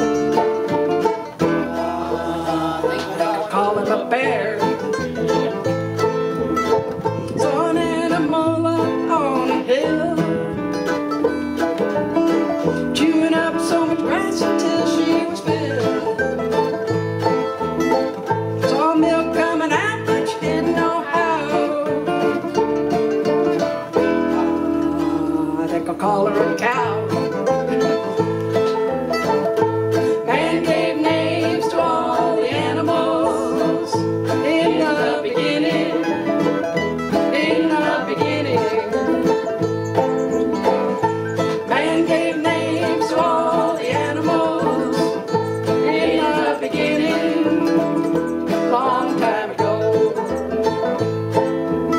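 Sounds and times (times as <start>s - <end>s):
mandolins and acoustic guitar: 0.0s - 51.9s.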